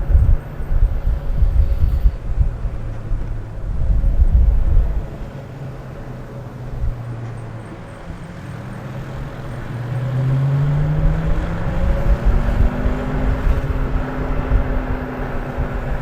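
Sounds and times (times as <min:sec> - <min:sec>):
electric scooter motor whining: 0:00.0 - 0:16.0
wind rumble on microphone: 0:00.0 - 0:16.0.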